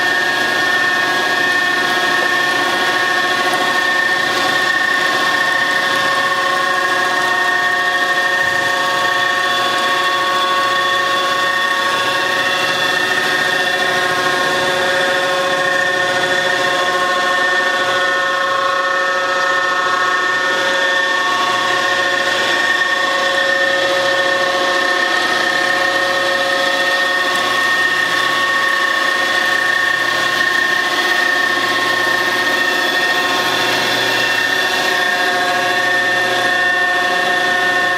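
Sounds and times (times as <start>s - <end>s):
grinder whining: 0.0s - 37.9s.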